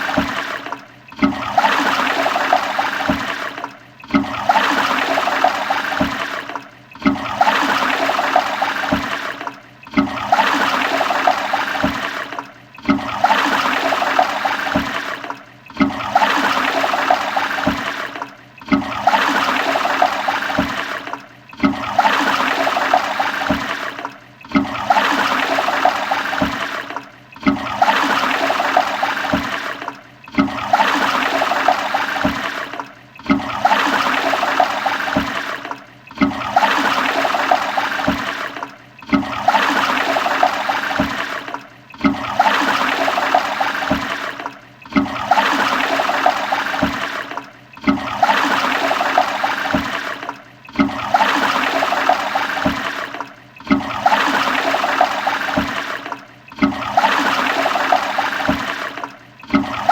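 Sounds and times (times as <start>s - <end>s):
toilet flushing: 0.0s - 59.9s.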